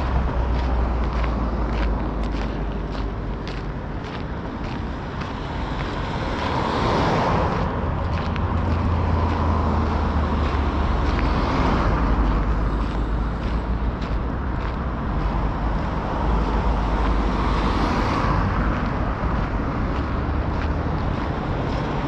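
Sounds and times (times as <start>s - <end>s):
cars passing on road: 0.0s - 22.0s.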